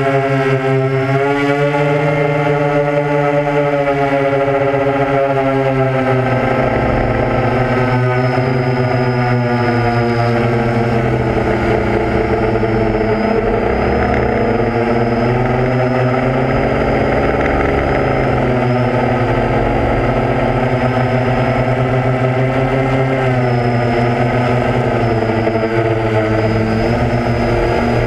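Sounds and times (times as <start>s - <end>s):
drone motors and propellers: 0.0s - 28.0s.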